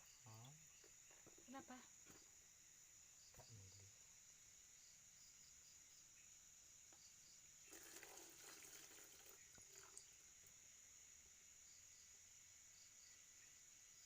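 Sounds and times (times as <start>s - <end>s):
crickets and insects droning: 0.0s - 14.0s.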